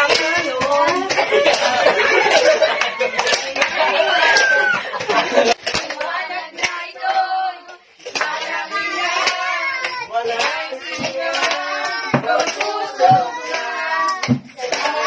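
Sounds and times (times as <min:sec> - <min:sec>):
children and adults singing carol: 0:00.0 - 0:04.4, 0:05.3 - 0:15.0
hand claps: 0:00.0 - 0:07.2, 0:08.1 - 0:15.0.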